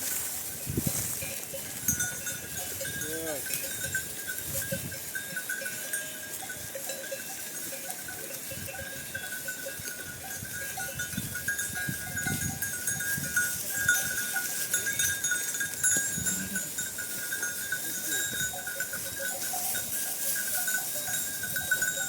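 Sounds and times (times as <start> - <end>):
goat and sheep bells clinking: 0.0 - 22.0.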